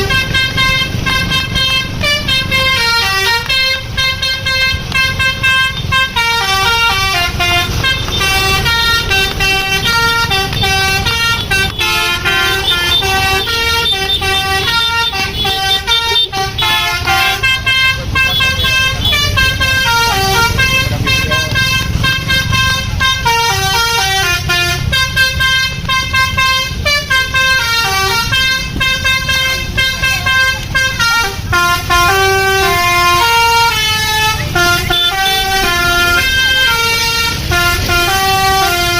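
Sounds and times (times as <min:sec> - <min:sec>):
low rumble of bus: 0:00.0 - 0:38.9
musical bus horn tune: 0:00.0 - 0:38.9.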